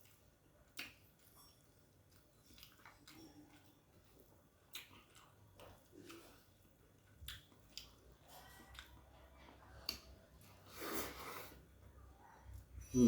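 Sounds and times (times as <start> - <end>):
chewing food: 0.0 - 10.8.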